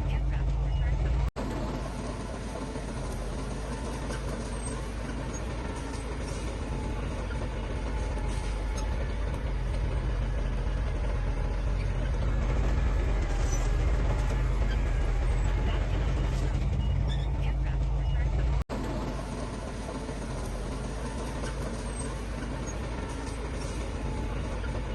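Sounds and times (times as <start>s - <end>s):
heavy diesel engine humming: 0.0s - 24.9s.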